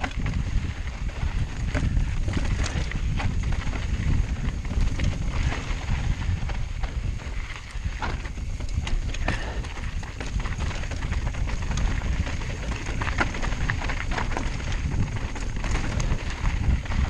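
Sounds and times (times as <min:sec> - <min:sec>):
bike knocking and rattling: 0:00.0 - 0:17.0
tyres running over gravel: 0:00.0 - 0:17.0
wind buffeting microphone: 0:00.0 - 0:17.0.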